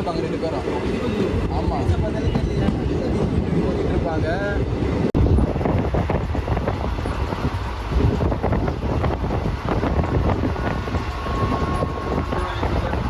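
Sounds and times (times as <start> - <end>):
train coach rumbling over track: 0.0 - 13.0
wind on microphone: 0.6 - 13.0.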